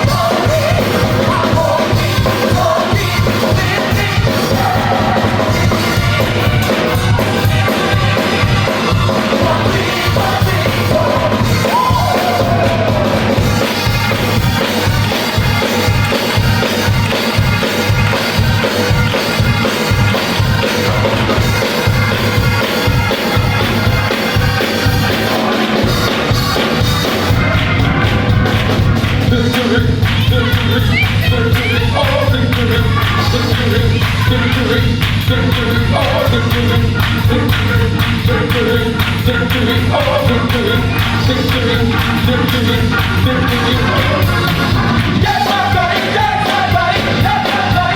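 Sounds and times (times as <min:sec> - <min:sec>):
gospel choir singing with band: 0:00.0 - 0:47.9
steady drum beat: 0:00.0 - 0:47.9.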